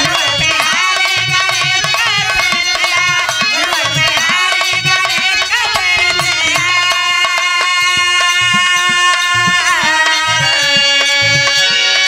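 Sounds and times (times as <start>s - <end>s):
harmonium melody: 0.0s - 12.0s
quick dholak beat: 0.0s - 12.0s.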